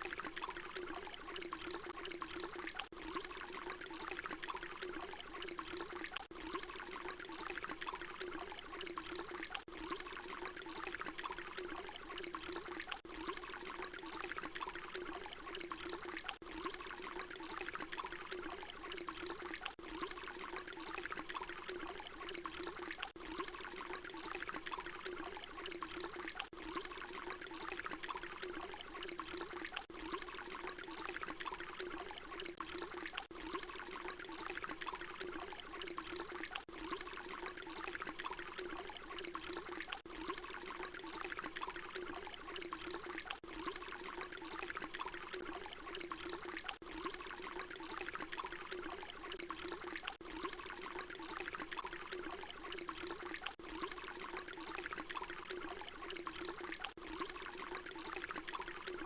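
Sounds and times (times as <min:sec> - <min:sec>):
water pouring: 0:00.0 - 0:59.0.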